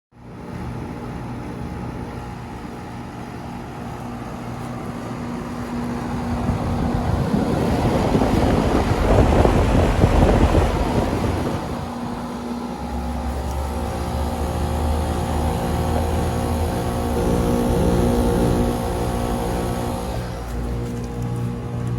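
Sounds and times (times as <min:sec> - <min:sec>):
low mechanical hum: 0:00.2 - 0:21.9.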